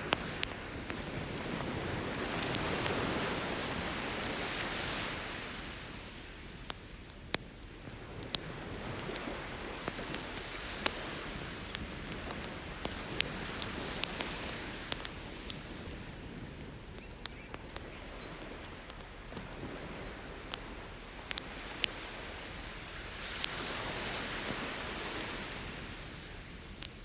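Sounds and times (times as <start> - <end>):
ocean surf: 0.0 - 7.0, 8.0 - 26.9
bonfire crackling and popping: 0.0 - 27.0.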